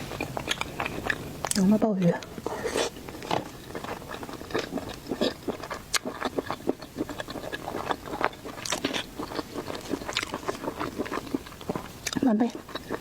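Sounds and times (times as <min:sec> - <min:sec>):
person chewing and biting: 0:00.0 - 0:01.6, 0:02.3 - 0:13.0.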